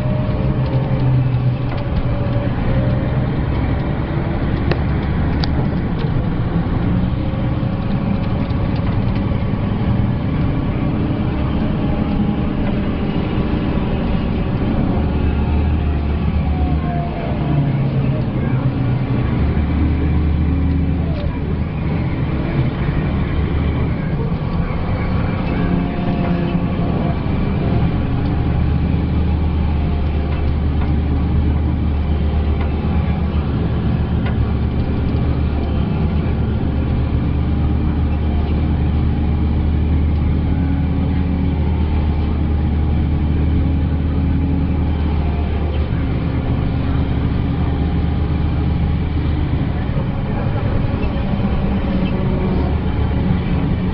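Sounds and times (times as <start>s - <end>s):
diesel bus engine pulling: 0.0s - 53.9s
road noise: 0.0s - 53.9s.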